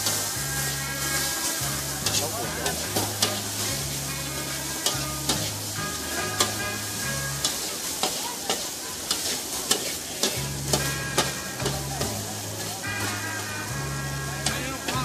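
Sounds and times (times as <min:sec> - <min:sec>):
ladle clacking on a wok: 0:00.0 - 0:13.2
ladle scraping a wok: 0:00.0 - 0:15.0
noodles sizzling in a wok: 0:00.0 - 0:15.0.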